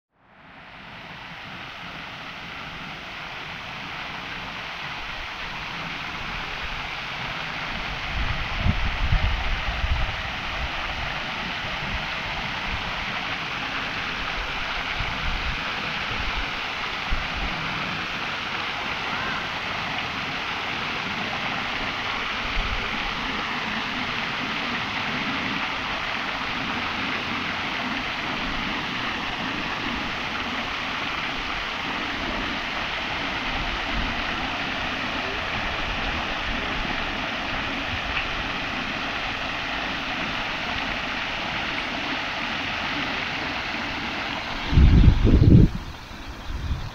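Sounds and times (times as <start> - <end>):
fountain water splashing into basin: 0.3 - 46.9.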